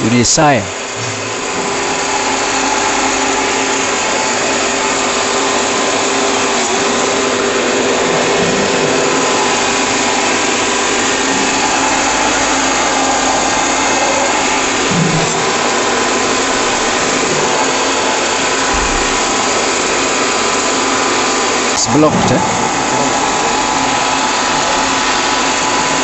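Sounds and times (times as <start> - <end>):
electric grinder whirring: 0.7 - 26.0.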